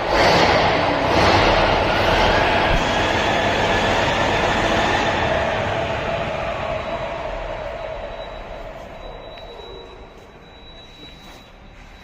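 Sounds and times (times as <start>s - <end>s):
generator running: 0.0s - 12.0s
steady whine: 0.0s - 12.0s.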